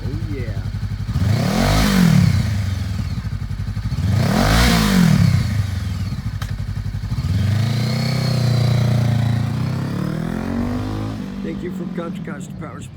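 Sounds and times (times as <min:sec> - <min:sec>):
motorcycle engine idling and revving: 0:00.0 - 0:12.9.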